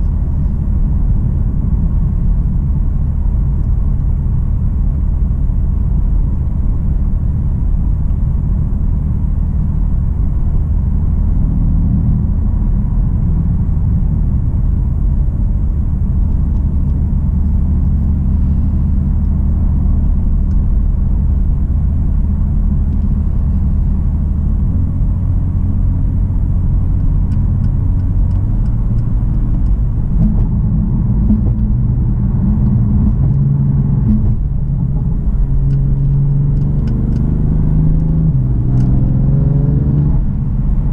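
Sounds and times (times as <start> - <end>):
car engine running: 0.0 - 40.9
road and tyre noise: 0.0 - 40.9.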